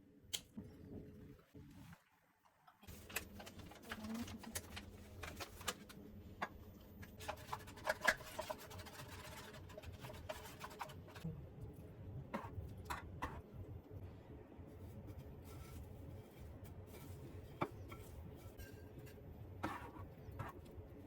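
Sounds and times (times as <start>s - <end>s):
faint steady background hum: 0.0s - 21.0s.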